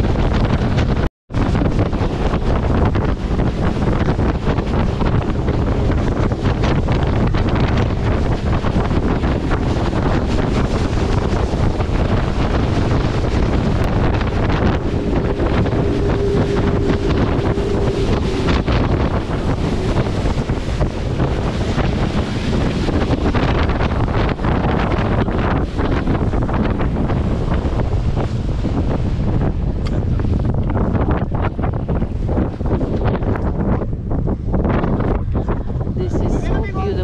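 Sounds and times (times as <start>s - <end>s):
motorboat engine and water rush: 0.0s - 37.0s
wind buffeting microphone: 0.0s - 37.0s.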